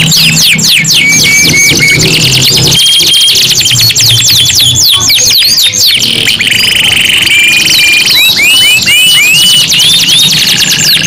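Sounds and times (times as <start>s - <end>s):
canaries singing: 0.0s - 11.0s.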